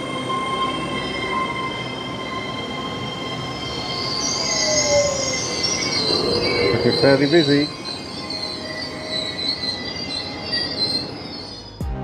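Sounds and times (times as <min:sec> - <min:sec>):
electric train whine: 0:00.0 - 0:11.8
train wheel squeal: 0:00.0 - 0:11.8.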